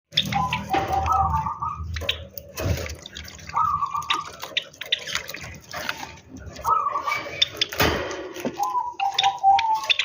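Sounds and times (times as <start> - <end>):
bird splashing water: 0.1 - 9.2.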